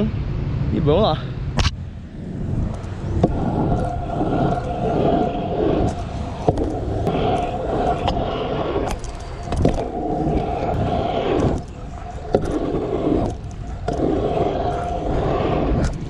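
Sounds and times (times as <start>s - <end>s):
scooter wheels rolling: 2.0s - 16.0s.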